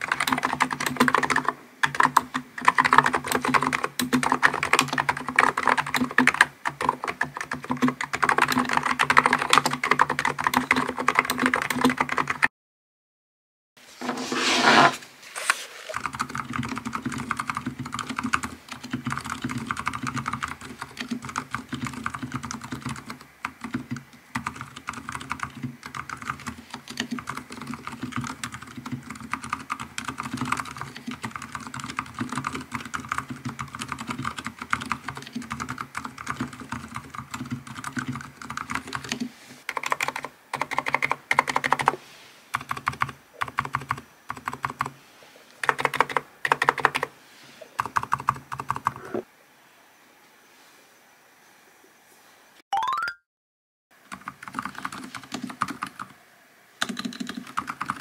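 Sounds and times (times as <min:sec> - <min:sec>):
soft keyboard typing: 0:00.0 - 0:12.5, 0:15.9 - 0:45.0, 0:45.6 - 0:47.1, 0:47.8 - 0:49.2, 0:54.1 - 0:56.1, 0:56.8 - 0:58.0.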